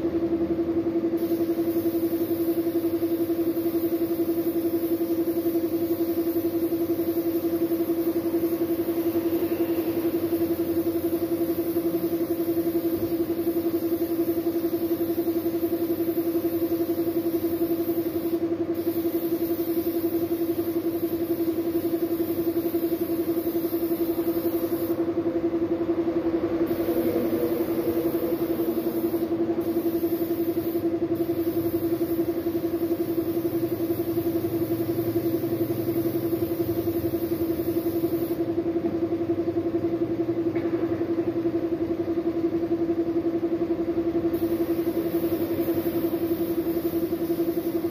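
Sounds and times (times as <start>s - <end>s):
air compressor humming: 0.0s - 47.9s
spray gun hissing: 1.2s - 25.0s, 26.7s - 38.4s, 44.4s - 47.9s.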